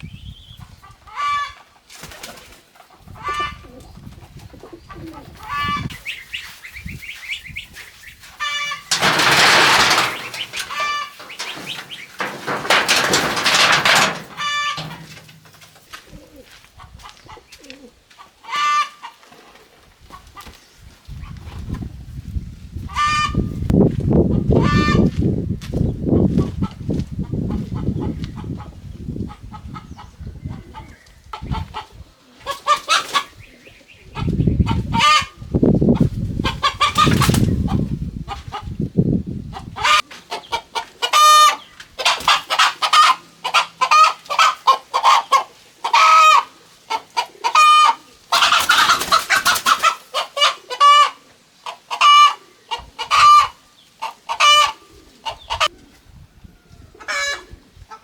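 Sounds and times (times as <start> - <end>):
chickens clucking: 0.5 - 21.9, 22.8 - 58.0.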